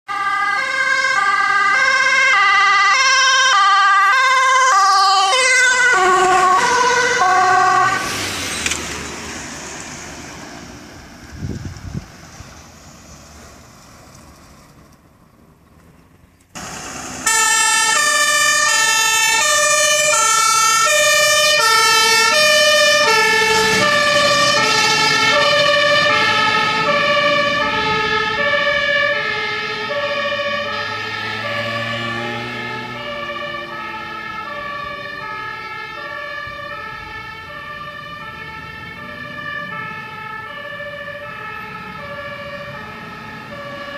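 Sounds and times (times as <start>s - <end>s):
two-tone fire engine siren: 0.1s - 12.0s, 16.6s - 43.9s.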